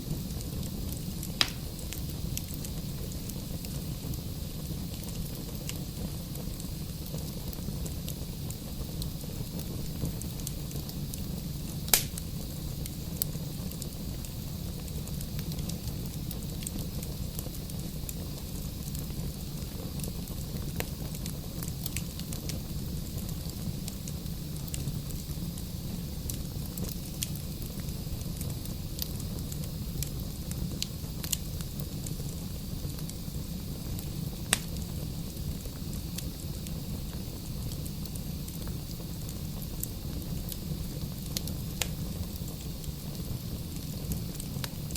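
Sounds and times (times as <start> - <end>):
burning logs crackling and popping: 0.0 - 44.9
fire flames rumbling: 0.0 - 44.9.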